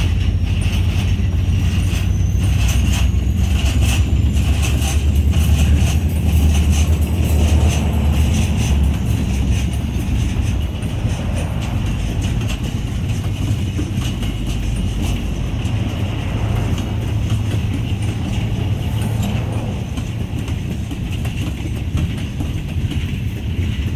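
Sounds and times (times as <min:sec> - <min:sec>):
train wheels clicking and clanking: 0:00.0 - 0:23.9
train wheels rumbling on rails: 0:00.0 - 0:23.9.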